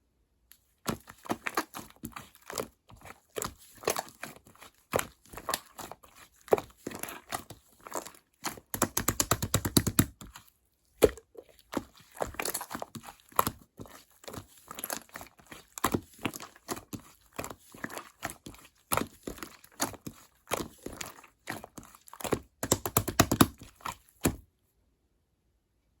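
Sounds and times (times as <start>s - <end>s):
slime squished by hand: 0.7s - 24.5s.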